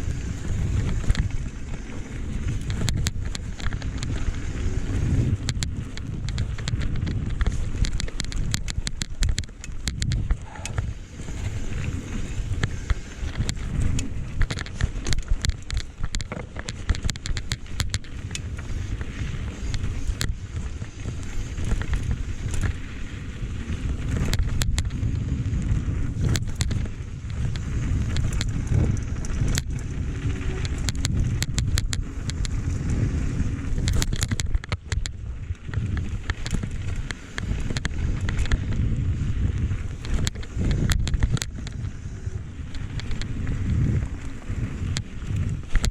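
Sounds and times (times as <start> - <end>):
mountain bike rattling on trail: 0.0 - 45.9
wind buffeting microphone: 0.0 - 45.9.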